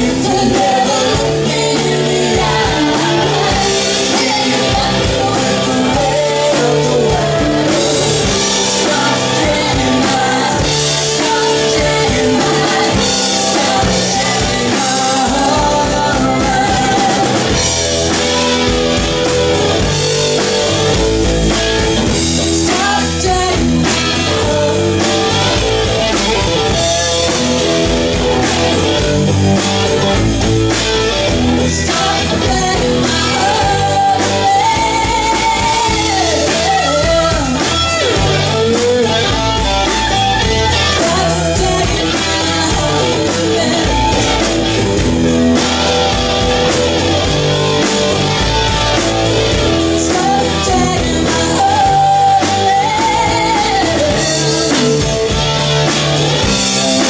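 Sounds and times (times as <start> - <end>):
lead guitar line bending: 0.0 - 57.0
live rock band playing: 0.0 - 57.0.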